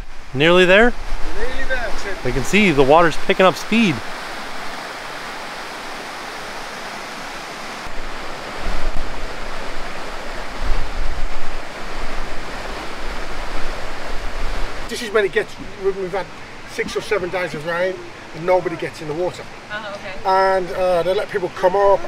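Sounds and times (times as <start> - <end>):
stream rushing over rocks: 0.0 - 22.0
waterfall rushing: 0.0 - 22.0.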